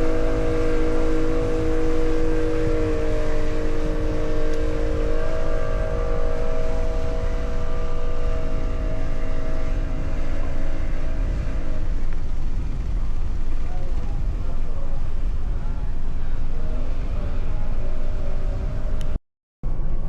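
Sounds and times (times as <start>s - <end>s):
droning tone: 0.0s - 20.0s
ship engine rumble: 0.0s - 20.0s.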